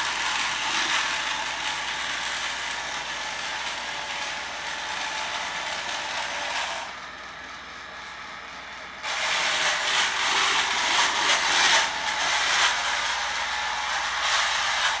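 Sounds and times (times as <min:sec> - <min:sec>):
small motors and wheels running: 0:00.0 - 0:15.0.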